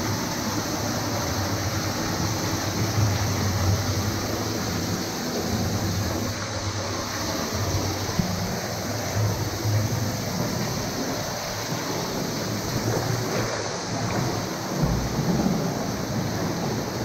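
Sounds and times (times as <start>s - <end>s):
sea water rushing: 0.0s - 17.0s.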